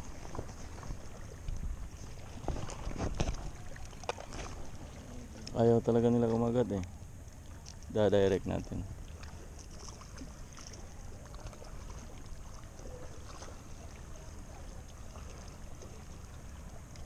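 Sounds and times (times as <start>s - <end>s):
sea water lapping against rocks: 0.0s - 17.0s.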